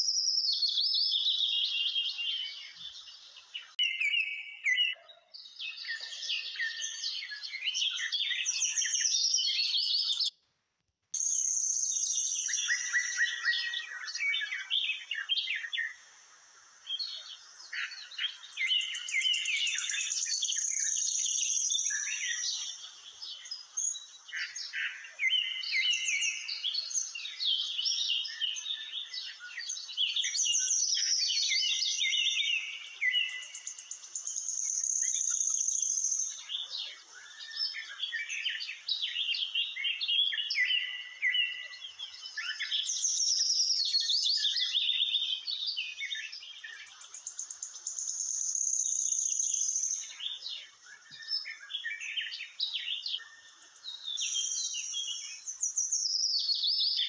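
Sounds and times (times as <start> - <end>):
small birds chirping and trilling: 0.0 - 10.4, 11.2 - 57.0.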